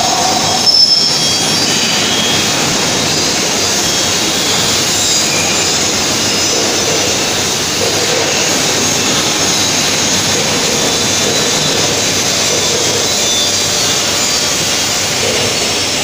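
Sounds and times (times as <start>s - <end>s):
drilling machine whirring: 0.0s - 16.0s.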